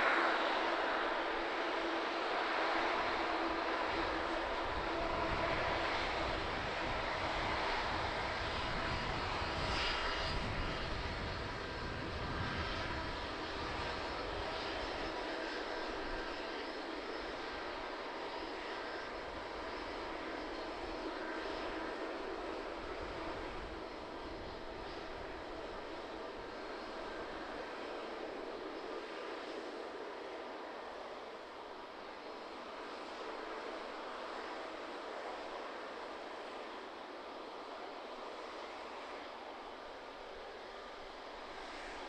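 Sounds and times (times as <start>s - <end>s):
airliner engine noise: 0.0s - 42.0s.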